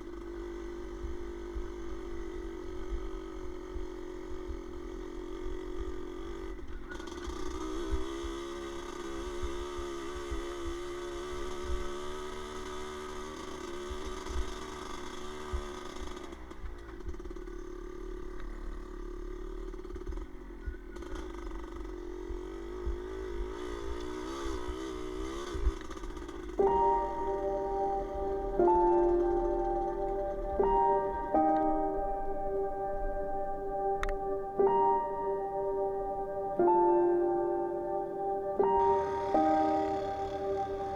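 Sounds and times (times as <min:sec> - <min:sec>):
small motorcycle engine running: 0:00.0 - 0:40.9.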